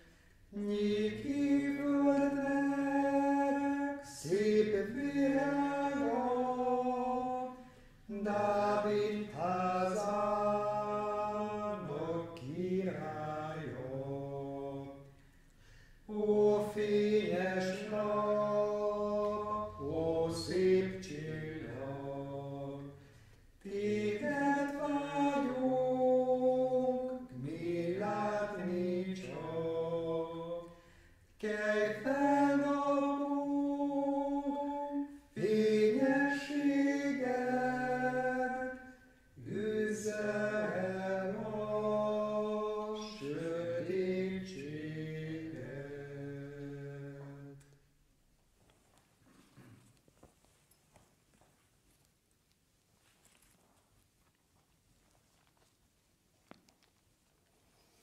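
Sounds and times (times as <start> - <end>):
men singing a hymn unaccompanied: 0.0 - 15.2, 16.1 - 47.8.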